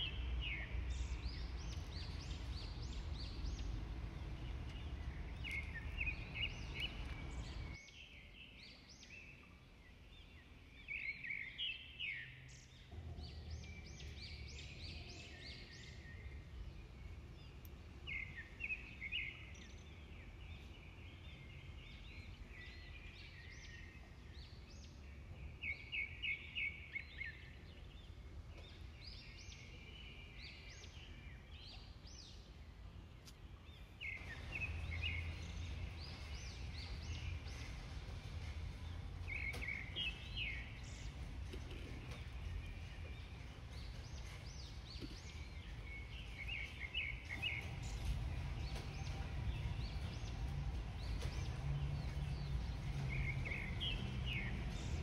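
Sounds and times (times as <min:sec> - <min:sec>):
low outdoor background noise: 0:00.0 - 0:55.0
small birds chirping: 0:00.0 - 0:55.0.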